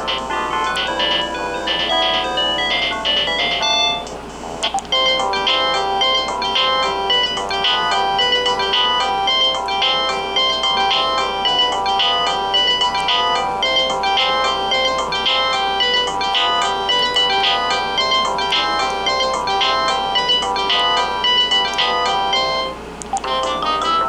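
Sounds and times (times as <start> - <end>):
cordless phone ringtone: 0.0 - 24.0.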